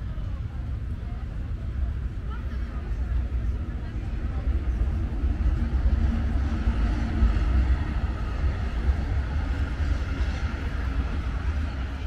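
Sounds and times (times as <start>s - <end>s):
faint distant voices: 0.0s - 12.0s
steady low rumble: 0.0s - 12.0s.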